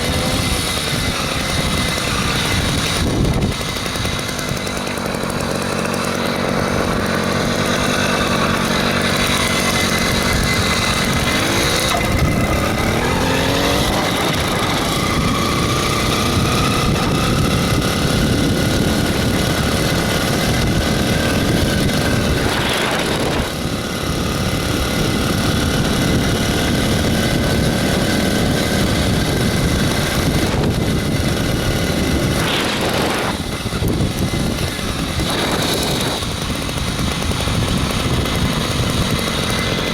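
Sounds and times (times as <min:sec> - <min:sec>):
two-stroke bicycle engine revving: 0:00.0 - 0:39.9.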